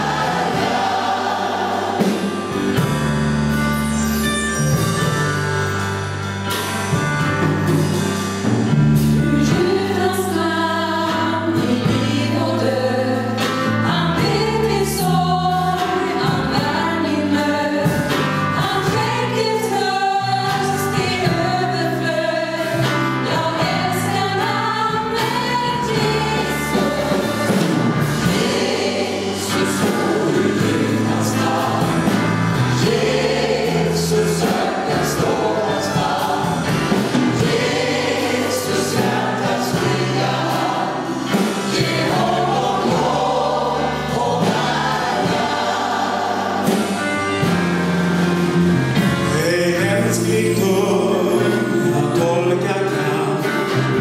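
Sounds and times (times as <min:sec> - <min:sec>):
gospel choir singing: 0:00.0 - 0:03.6, 0:08.6 - 0:54.0
keyboard with low bass notes: 0:00.0 - 0:19.5, 0:20.4 - 0:54.0.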